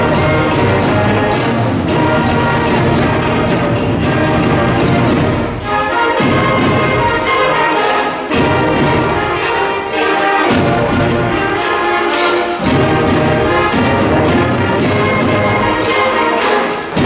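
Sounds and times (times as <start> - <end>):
concert band playing loudly: 0.0 - 17.0
steady drum beat: 0.0 - 17.0.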